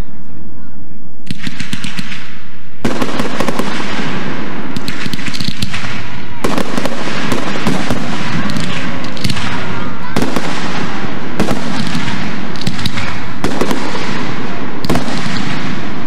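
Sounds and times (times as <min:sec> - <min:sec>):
firework crackling: 0:01.2 - 0:16.0
firework shells bursting: 0:01.2 - 0:16.0.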